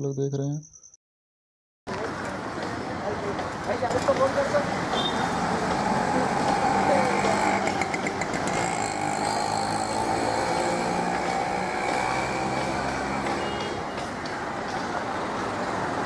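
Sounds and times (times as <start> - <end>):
vehicle engines running: 1.9 - 16.0.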